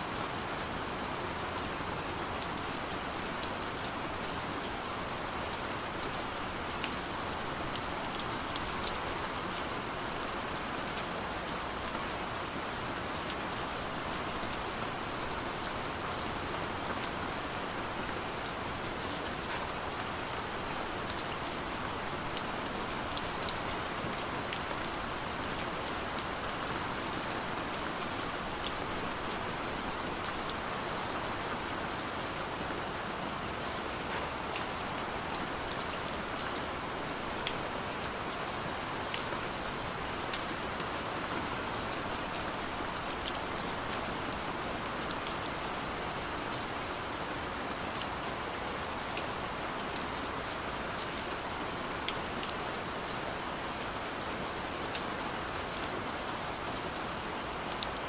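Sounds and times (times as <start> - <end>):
gentle rain falling: 0.0 - 58.0
raindrops ticking on a surface: 0.2 - 58.0.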